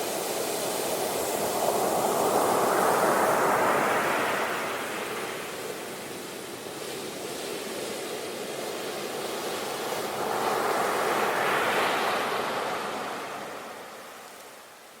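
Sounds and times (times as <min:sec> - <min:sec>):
sea waves breaking on shore: 0:01.5 - 0:14.8.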